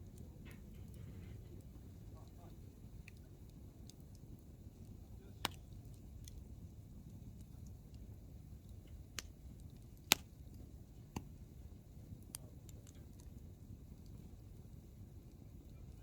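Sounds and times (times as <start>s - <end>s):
firewood popping: 0.0s - 16.0s
low fire rumble: 0.0s - 16.0s.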